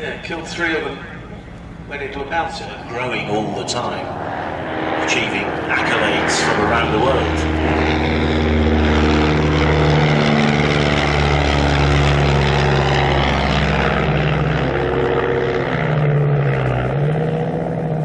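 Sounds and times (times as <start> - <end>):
propeller aircraft piston engine: 0.0 - 18.0.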